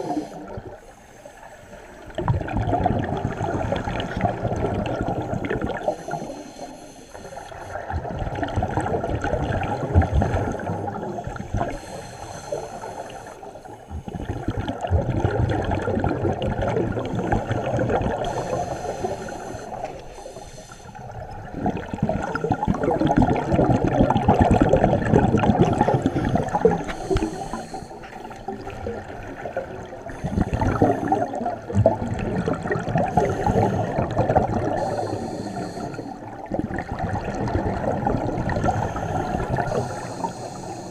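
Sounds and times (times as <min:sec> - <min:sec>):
scuba regulator bubbling exhalations: 0:02.1 - 0:06.5, 0:07.2 - 0:40.9.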